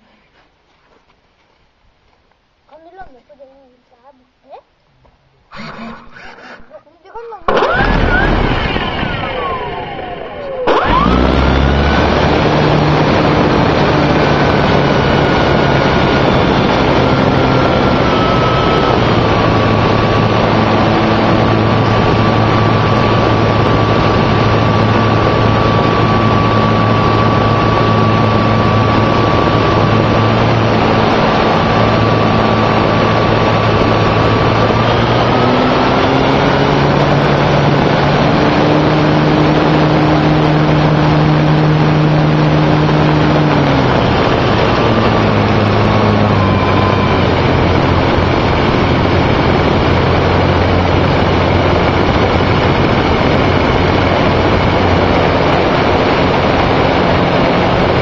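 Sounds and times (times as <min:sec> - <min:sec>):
model airplane motor and propeller: 0:05.5 - 0:58.0.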